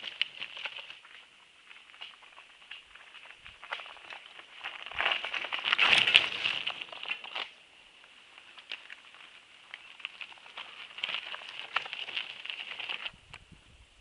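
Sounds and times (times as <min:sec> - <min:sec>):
bike tyres crunching on gravel: 0:00.0 - 0:13.3.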